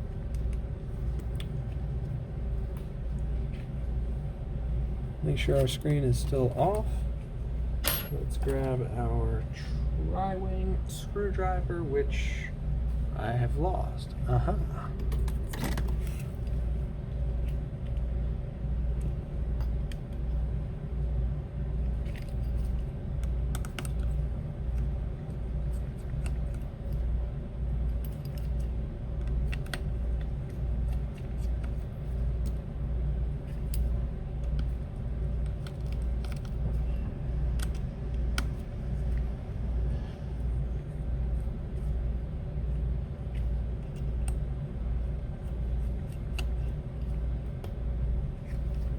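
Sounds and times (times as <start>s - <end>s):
pulsing low hum: 0.0s - 8.1s, 9.0s - 48.9s.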